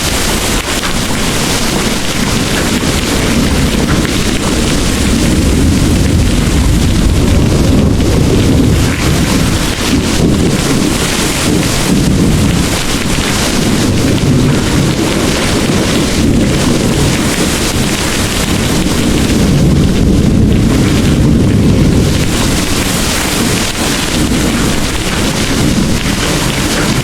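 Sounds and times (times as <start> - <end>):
distant rolling thunder: 0.0 - 27.0
heavy rain pouring: 0.0 - 27.0.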